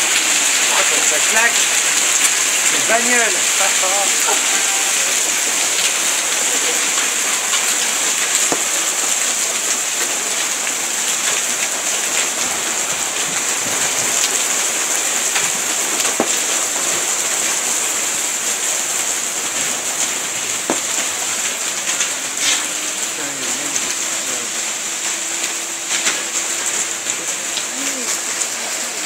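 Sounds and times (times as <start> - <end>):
hailstones clicking: 0.0 - 29.0
heavy rain hissing: 0.0 - 29.0.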